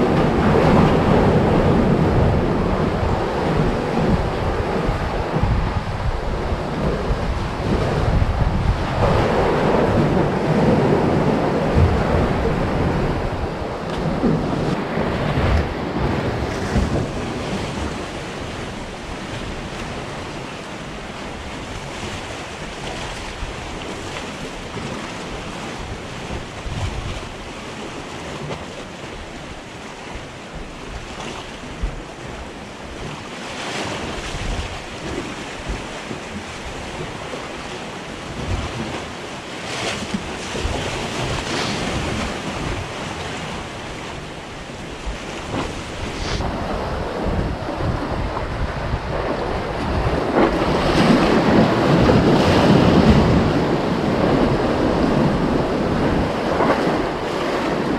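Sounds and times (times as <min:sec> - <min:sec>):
wind gusting on microphone: 0:00.0 - 0:27.7, 0:29.2 - 0:57.9
sea surf washing among concrete blocks: 0:00.0 - 0:57.9.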